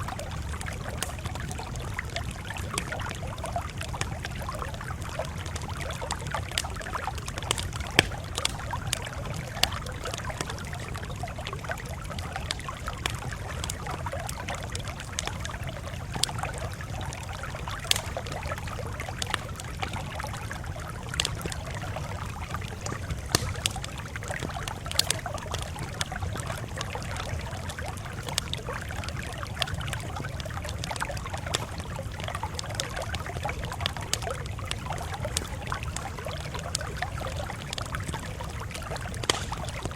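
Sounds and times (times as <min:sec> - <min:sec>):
campfire pops and snaps: 0:00.0 - 0:39.9
low rumble of burning: 0:00.0 - 0:39.9.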